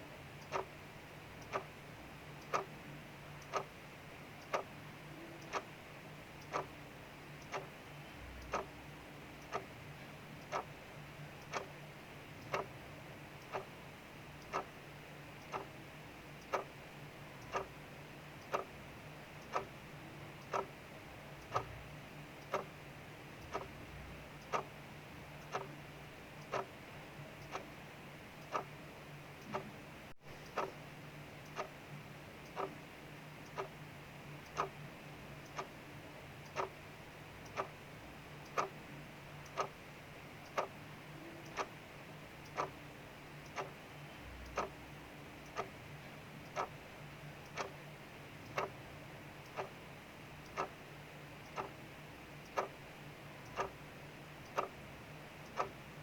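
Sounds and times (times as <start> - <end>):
clock ticking: 0.3 - 29.8, 30.4 - 56.0.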